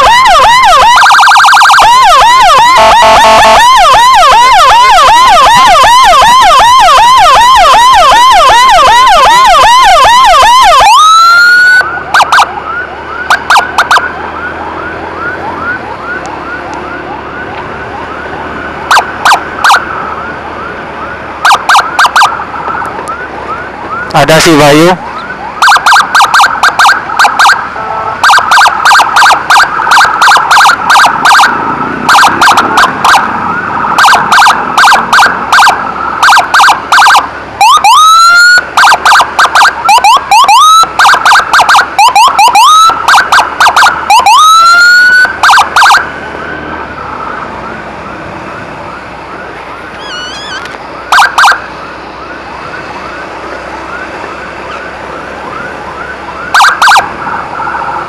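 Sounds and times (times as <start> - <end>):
ambulance siren: 0.0 - 58.0
faint siren sweeping up and down: 0.0 - 58.0.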